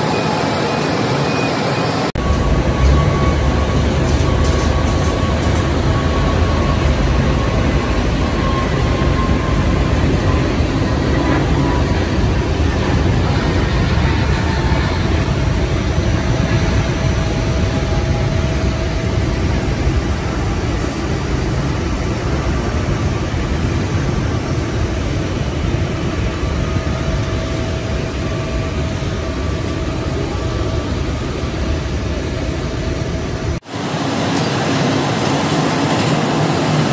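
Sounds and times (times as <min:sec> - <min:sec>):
distant jet engines rumbling: 0:00.0 - 0:36.9.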